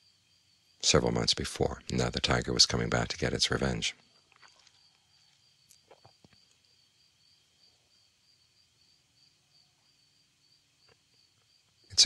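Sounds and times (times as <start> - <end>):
faint high insect chirp: 0.0 - 12.0.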